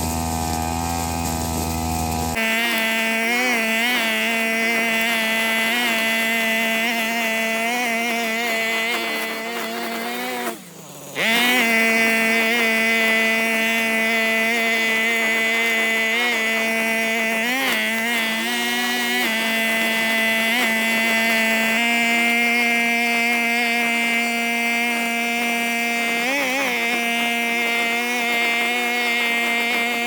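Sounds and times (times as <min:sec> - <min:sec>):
brush cutter engine running: 0:00.0 - 0:30.0.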